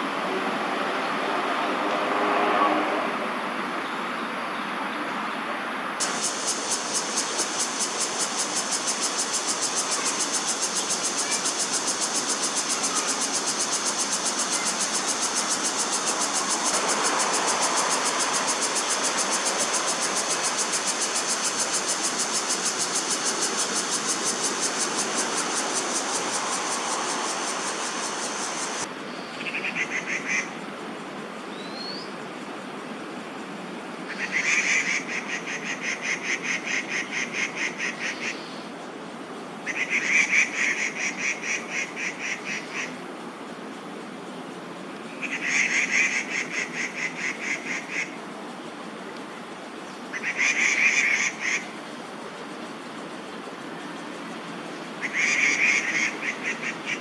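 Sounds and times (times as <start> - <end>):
cicadas buzzing: 6.0 - 57.0.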